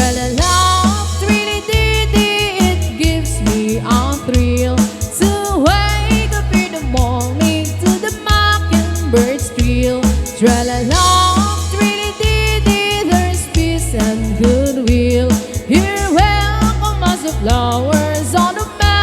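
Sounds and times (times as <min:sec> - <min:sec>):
bass and drum beat: 0:00.0 - 0:19.0
gliding melodic lead line: 0:00.0 - 0:19.0.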